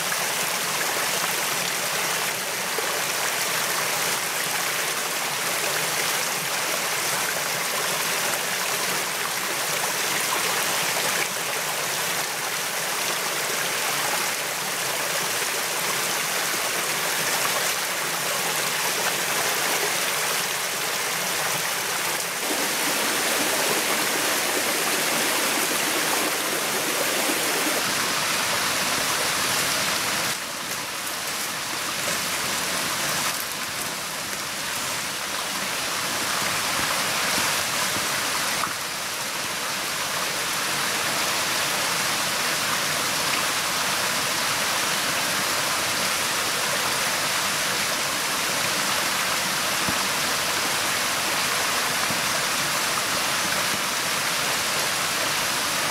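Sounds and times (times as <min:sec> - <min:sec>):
rushing stream: 0:00.0 - 0:55.9.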